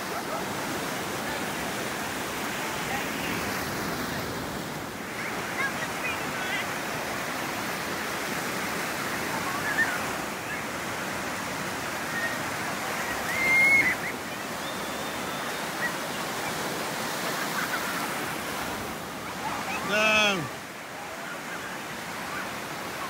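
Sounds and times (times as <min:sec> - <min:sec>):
ocean surf breaking on sand: 0:00.0 - 0:23.0.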